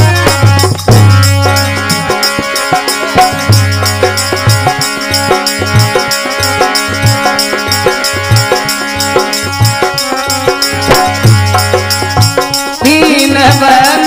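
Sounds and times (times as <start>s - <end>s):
drum beat: 0.0s - 14.0s
held chords: 0.0s - 14.0s
jingling percussion: 0.0s - 14.0s.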